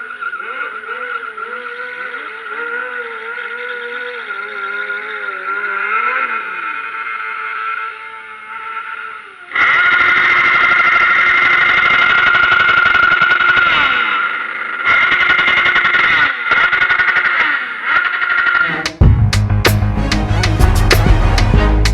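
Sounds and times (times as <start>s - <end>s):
motorcycle engine revving hard: 0.0s - 21.9s.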